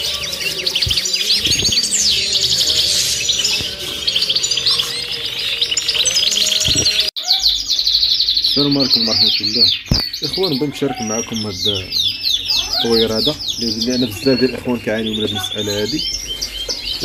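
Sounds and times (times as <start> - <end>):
cage birds chirping: 0.0 - 17.0
faint music: 0.0 - 17.0.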